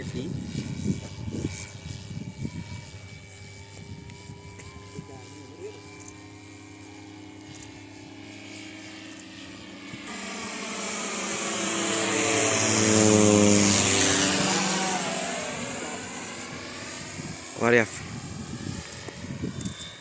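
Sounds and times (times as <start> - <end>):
model plane propellers humming: 0.0 - 20.0.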